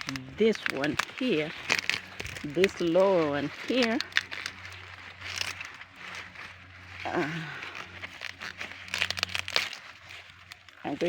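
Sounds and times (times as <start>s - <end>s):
dry maize leaves rustling: 0.0s - 11.0s
sharp crackles: 0.0s - 11.0s.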